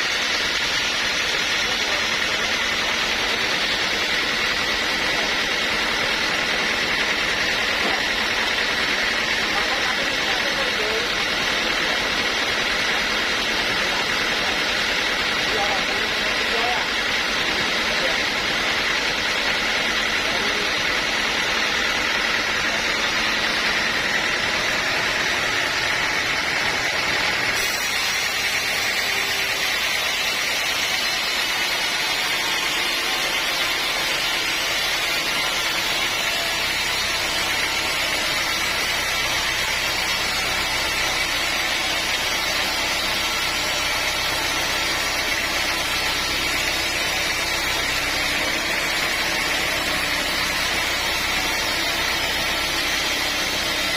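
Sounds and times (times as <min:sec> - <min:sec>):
sawmill machinery whirring: 0:00.0 - 0:53.9.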